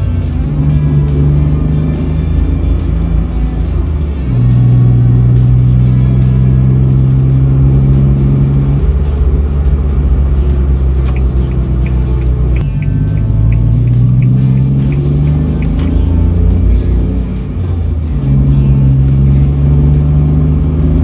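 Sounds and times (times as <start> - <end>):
van engine revving and idling: 0.0 - 21.0.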